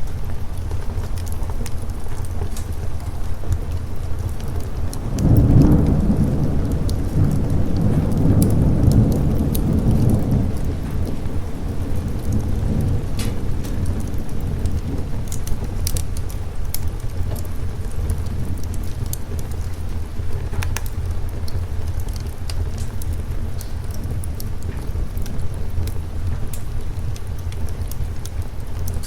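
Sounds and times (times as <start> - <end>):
fire crackling and popping: 0.0 - 29.0
steady rain: 0.0 - 29.0
thunder rumbling: 0.0 - 29.0.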